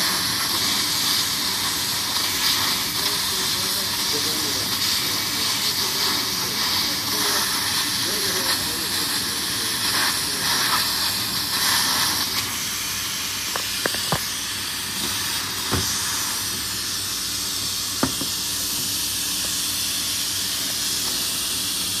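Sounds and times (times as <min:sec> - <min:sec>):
laser cutter hissing: 0:00.0 - 0:22.0.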